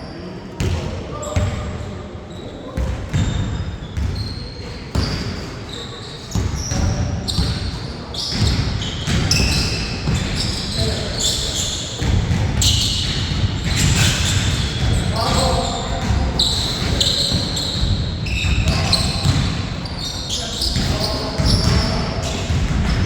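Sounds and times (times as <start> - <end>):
sneaker squeaks: 0.0 - 23.0
basketball bouncing on court: 0.6 - 1.6, 2.8 - 5.5, 6.3 - 11.0, 12.0 - 20.0, 20.6 - 23.0.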